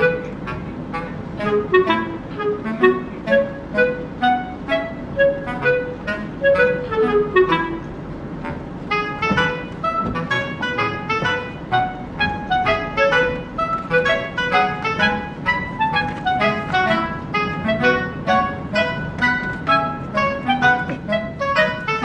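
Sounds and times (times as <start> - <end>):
light instrumental music: 0.0 - 22.0.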